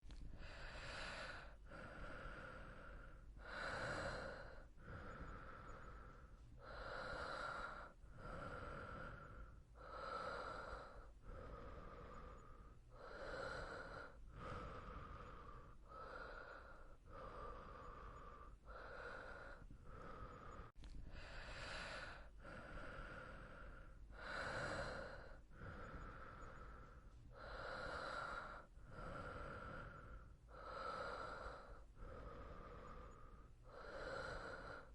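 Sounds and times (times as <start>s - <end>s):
person breathing slowly: 0.0s - 34.9s.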